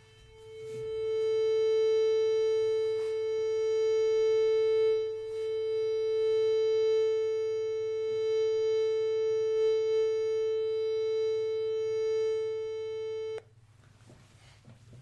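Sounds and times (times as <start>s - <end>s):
steady test tone: 0.0s - 13.4s.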